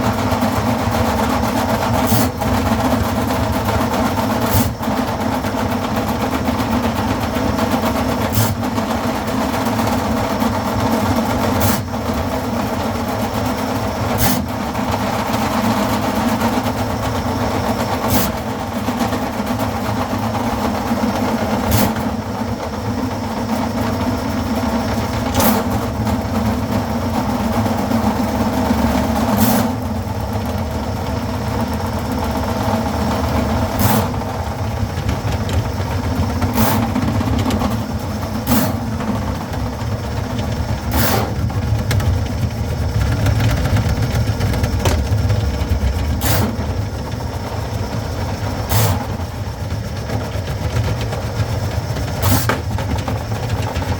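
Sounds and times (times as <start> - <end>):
drain-cleaning machine running: 0.0 - 53.9.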